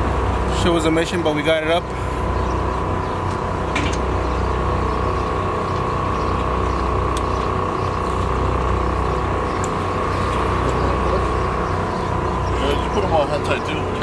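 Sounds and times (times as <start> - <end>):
high whine: 0.0 - 14.0
truck engine idling: 0.0 - 14.0.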